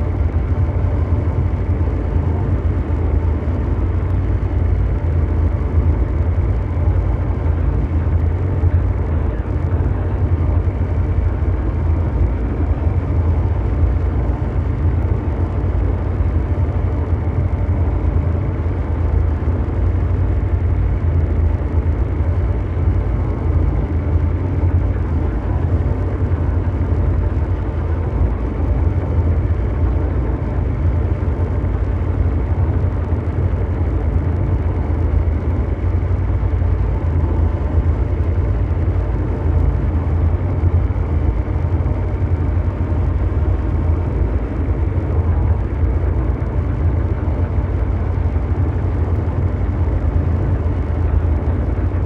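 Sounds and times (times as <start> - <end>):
deep mechanical rumbling hum: 0.0 - 52.0.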